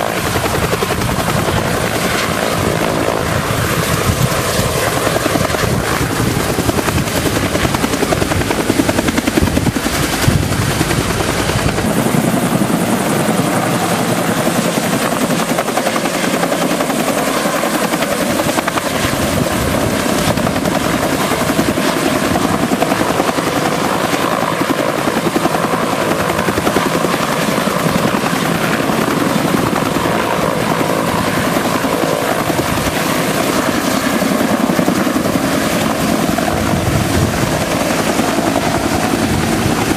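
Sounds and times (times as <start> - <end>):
helicopter engine whine: 0.0 - 39.9
helicopter rotor chopping: 0.0 - 39.9.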